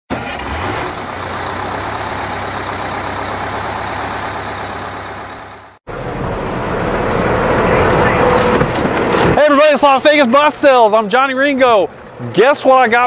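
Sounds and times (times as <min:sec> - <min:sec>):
heavy vehicle engine running: 0:00.1 - 0:13.0.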